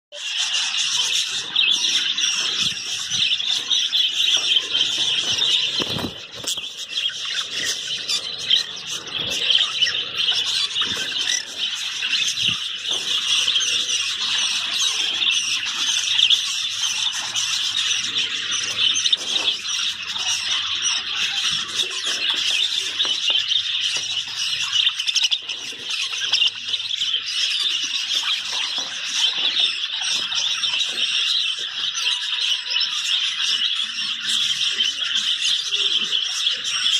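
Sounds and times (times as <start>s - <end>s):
budgerigars chattering and chirping: 0.1s - 36.9s.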